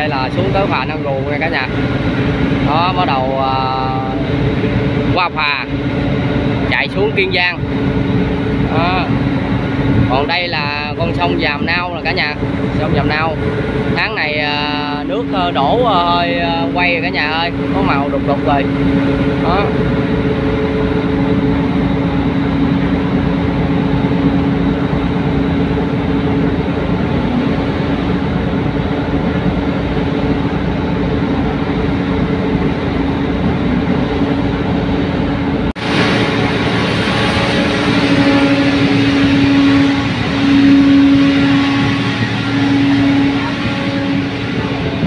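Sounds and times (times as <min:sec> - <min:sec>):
rumbling wind noise: 0:00.0 - 0:45.0
ship engine humming: 0:00.0 - 0:45.0.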